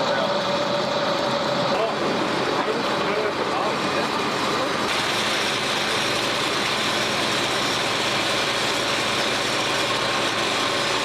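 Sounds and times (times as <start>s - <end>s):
diesel machinery running: 0.0s - 11.0s.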